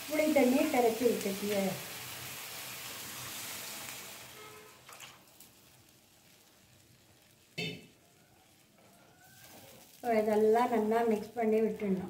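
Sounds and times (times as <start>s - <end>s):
liquid sizzling in hot pan: 0.0s - 12.0s.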